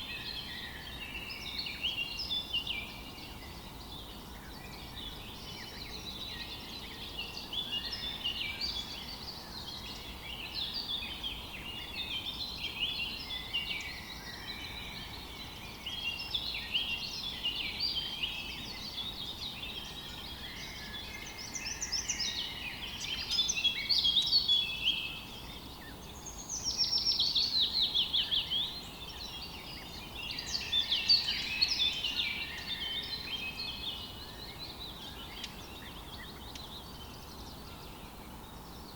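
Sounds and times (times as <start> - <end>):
faint steady hiss: 0.0 - 38.9
songbirds chirping and singing: 0.0 - 38.9.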